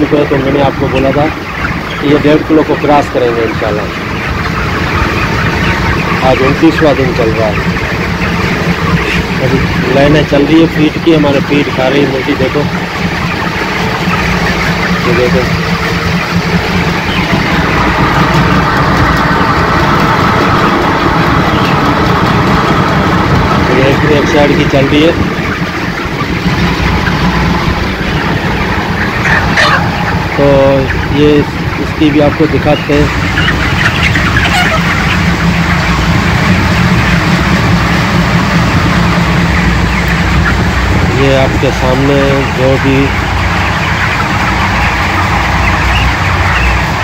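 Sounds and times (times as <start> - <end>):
augers and fans droning: 0.0 - 47.0
chickens calling: 0.0 - 47.0.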